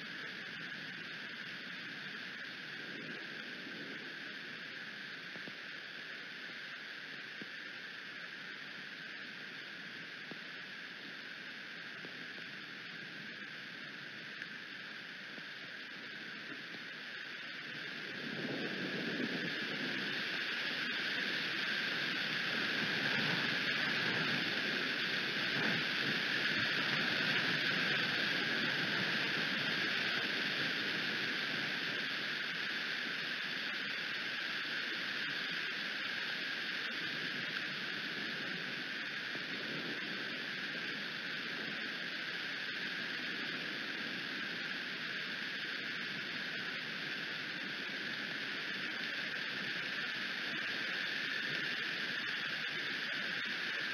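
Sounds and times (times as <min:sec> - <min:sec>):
wind noise: 0:00.0 - 0:11.4, 0:12.0 - 0:53.9
steady rain: 0:00.0 - 0:53.9.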